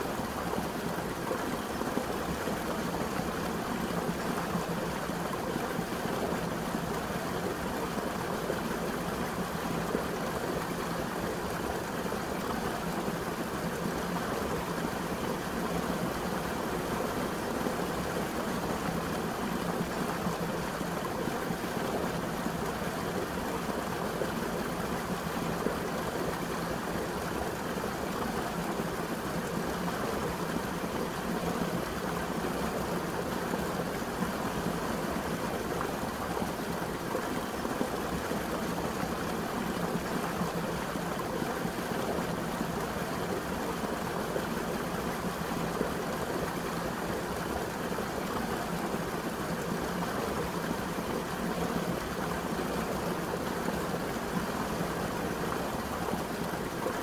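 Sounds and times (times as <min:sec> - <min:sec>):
waterfall pouring into pool: 0:00.1 - 0:57.0.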